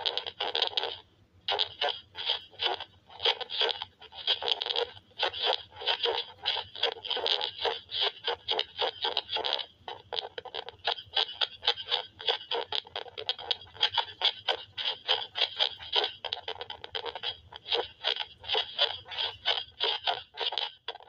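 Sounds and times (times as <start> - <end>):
electronic static crackling: 0.0 - 21.0.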